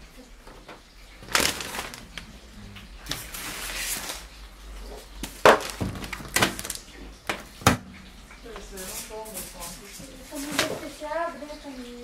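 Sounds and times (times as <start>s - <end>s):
plastic wrapping crinkling: 1.1s - 11.6s.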